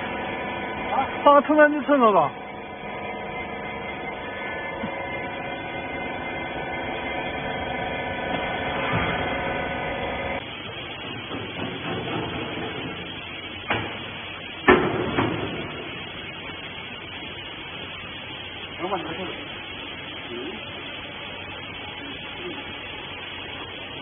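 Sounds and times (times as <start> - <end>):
baler motor and pump humming: 0.0 - 24.0
workshop noise: 0.0 - 24.0.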